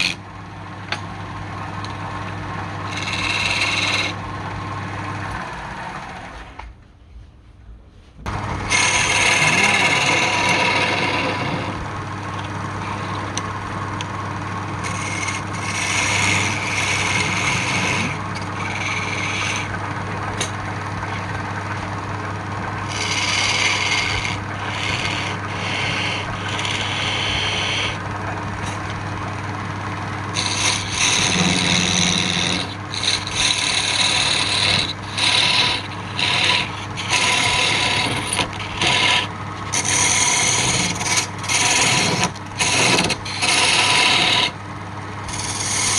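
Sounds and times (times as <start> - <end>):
tool rasping on spinning wood: 0.0 - 0.2, 1.2 - 6.4, 8.3 - 45.9
wood lathe humming: 0.0 - 6.6, 8.3 - 45.9.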